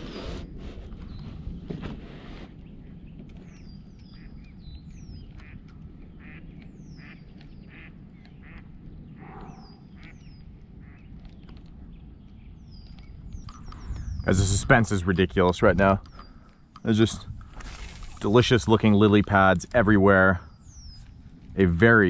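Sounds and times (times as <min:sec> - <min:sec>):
birds calling and chirping: 0:00.0 - 0:22.0
low rumble of wind or water: 0:00.0 - 0:22.0.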